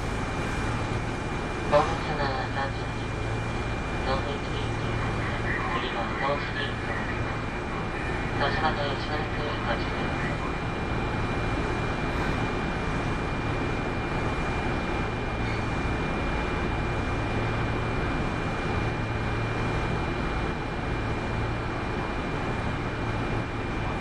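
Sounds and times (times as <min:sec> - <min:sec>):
train car rumble: 0:00.0 - 0:24.0.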